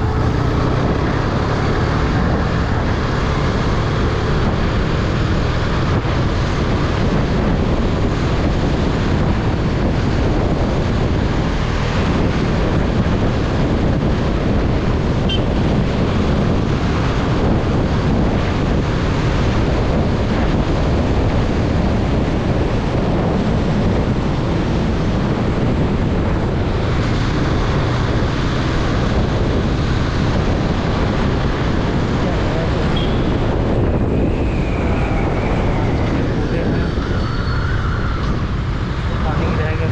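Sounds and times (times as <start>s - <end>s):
motorcycle road noise: 0.0s - 39.9s
wind buffeting microphone: 0.0s - 39.9s.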